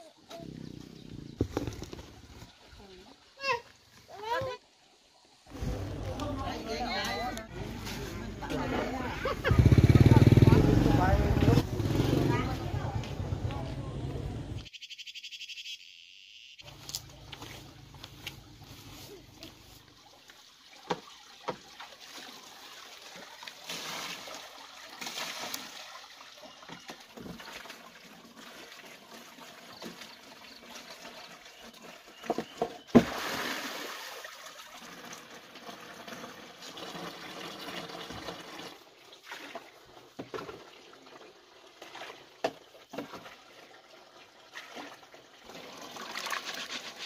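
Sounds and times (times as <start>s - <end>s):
water trickling and splashing: 0.0s - 13.7s, 16.6s - 47.0s.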